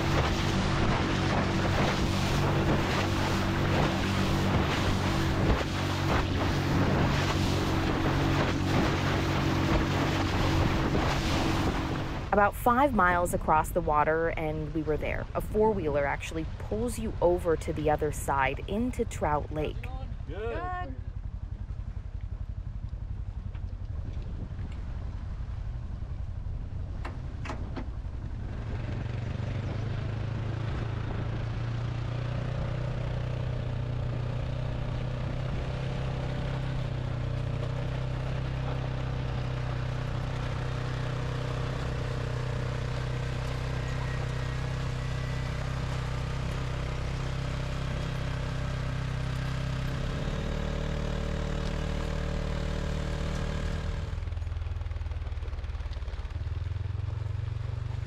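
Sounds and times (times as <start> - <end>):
atv engine running under load: 0.0 - 14.0, 16.5 - 58.0.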